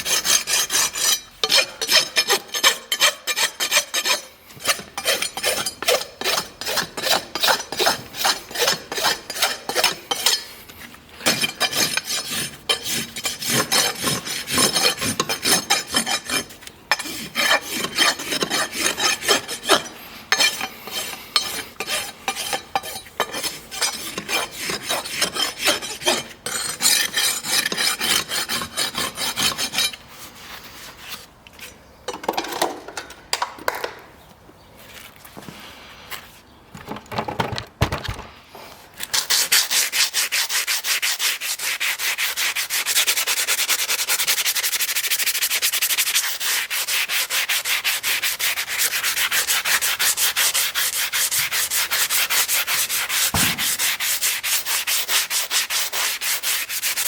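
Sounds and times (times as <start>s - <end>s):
rasp filing a hoof: 0.0s - 30.3s, 39.1s - 57.0s.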